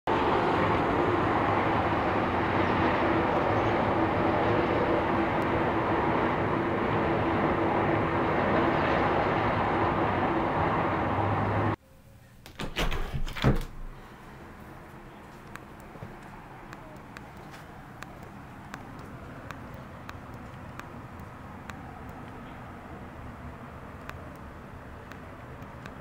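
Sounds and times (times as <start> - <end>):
distant city traffic: 0.1 - 12.4, 13.8 - 26.0.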